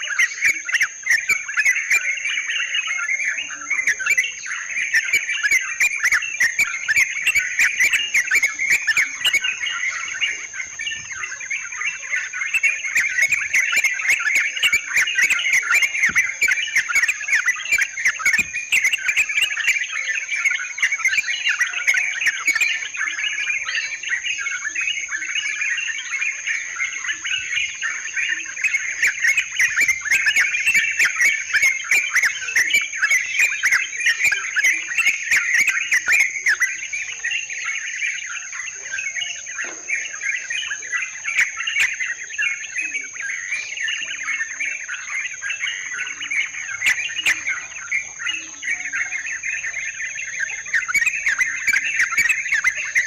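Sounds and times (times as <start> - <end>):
bulbuls chattering: 0.0 - 53.0.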